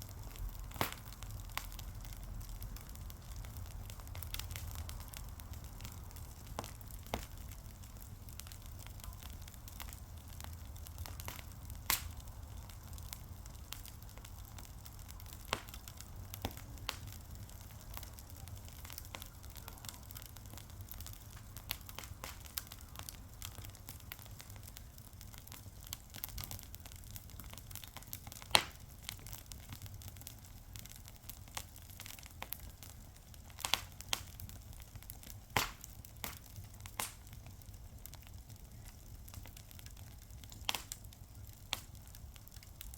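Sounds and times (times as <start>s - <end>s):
fire crackling with sharp pops: 0.0s - 42.9s
low rumble of fire: 0.0s - 42.9s.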